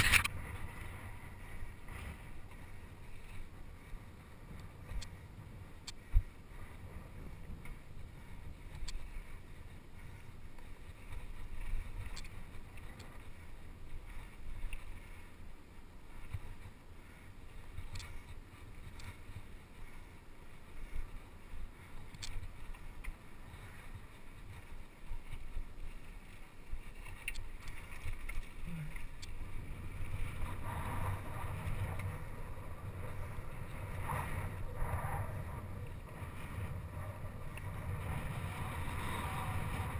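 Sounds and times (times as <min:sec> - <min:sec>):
bike clicks and rattles: 0:00.0 - 0:15.4, 0:16.2 - 0:39.9
bicycle tyres rolling on dirt: 0:00.0 - 0:39.9
wind on microphone: 0:00.0 - 0:39.9.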